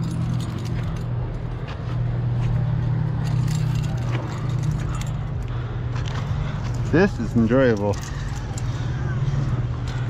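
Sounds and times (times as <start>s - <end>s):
climbing gear clinking: 0.0s - 10.0s.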